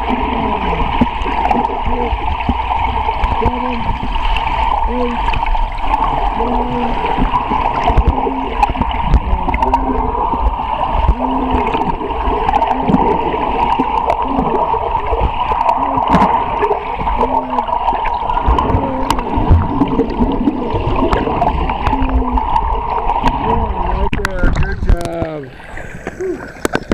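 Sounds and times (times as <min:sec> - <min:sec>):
underwater water churning: 0:00.0 - 0:26.9.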